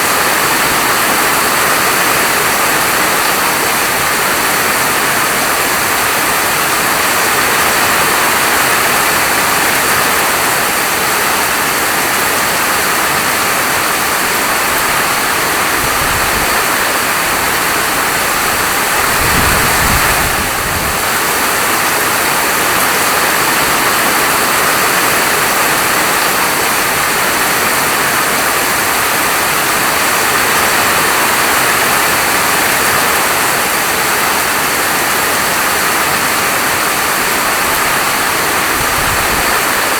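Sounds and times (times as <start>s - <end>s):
steady falling rain: 0.0s - 39.9s.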